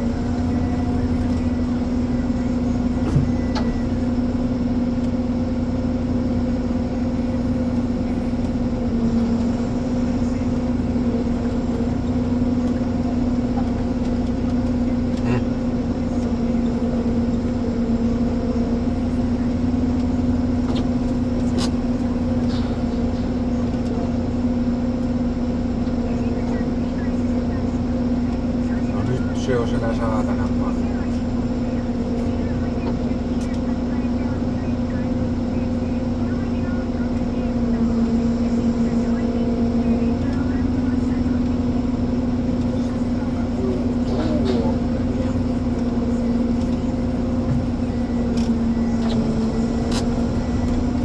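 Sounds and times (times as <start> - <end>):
diesel engine humming: 0.0 - 51.0.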